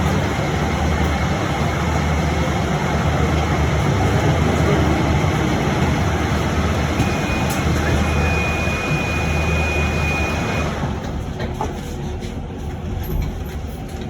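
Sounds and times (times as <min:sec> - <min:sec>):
bus cabin rumble and hiss: 0:00.0 - 0:14.0.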